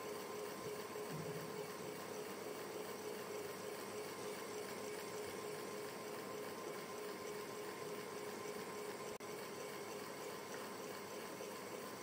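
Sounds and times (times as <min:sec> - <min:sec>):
electric fan running: 0:00.0 - 0:12.0
faint steady hum: 0:00.0 - 0:12.0.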